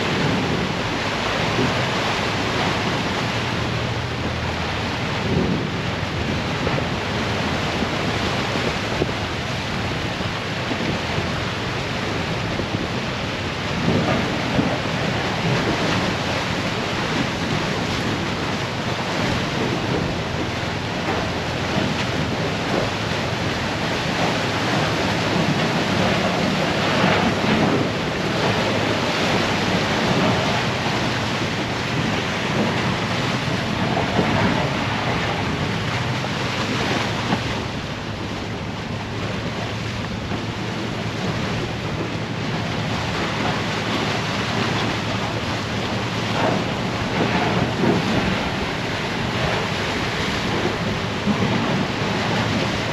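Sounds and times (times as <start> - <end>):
ship engine hum: 0.0 - 52.9.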